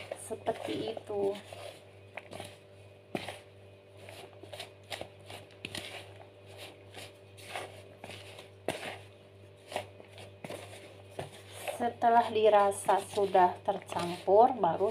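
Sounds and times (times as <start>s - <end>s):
flour and vegetables stirred by hand: 0.0s - 14.9s.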